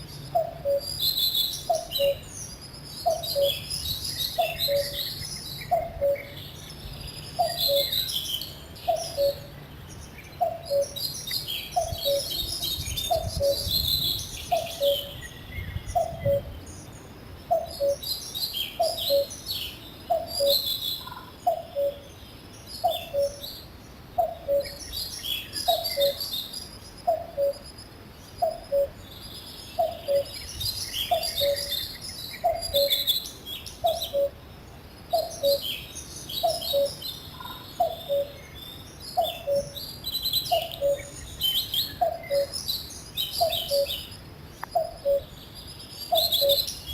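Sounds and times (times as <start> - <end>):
songbirds chirping and trilling: 0.0 - 46.9
cuckoo calling: 0.2 - 2.4, 3.0 - 6.5, 7.4 - 9.6, 10.4 - 16.5, 17.5 - 19.5, 20.1 - 22.1, 22.8 - 23.6, 24.2 - 27.7, 28.4 - 29.0, 29.8 - 34.4, 35.1 - 45.4, 46.1 - 46.9.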